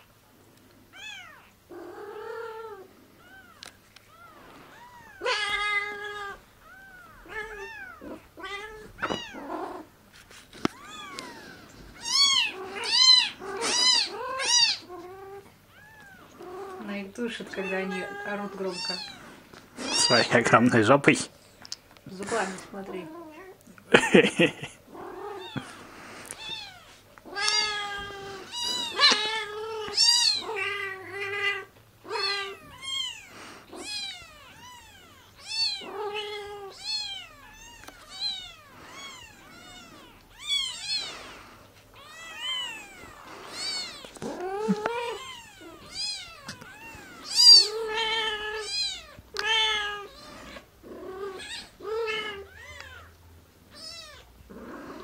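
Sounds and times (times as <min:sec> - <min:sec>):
kittens mewing: 0:00.9 - 0:20.6, 0:22.1 - 0:55.0.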